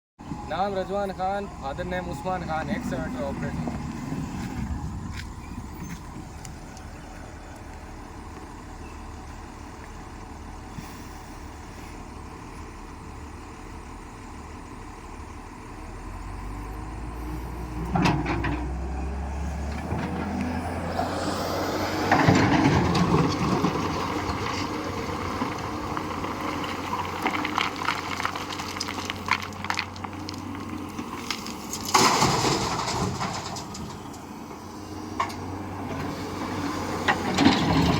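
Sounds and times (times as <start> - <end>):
excavator diesel engine: 0.2 - 37.9.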